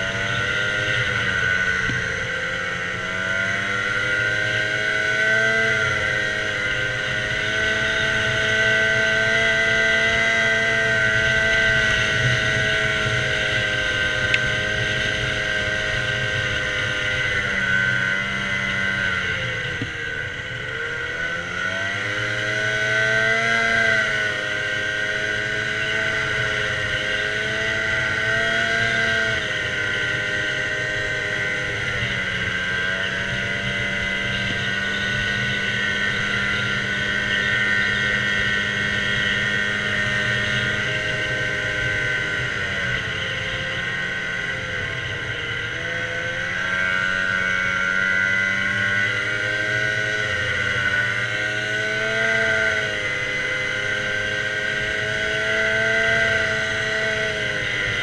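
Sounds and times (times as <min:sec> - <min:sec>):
snowmobile engine running: 0:00.0 - 0:58.0.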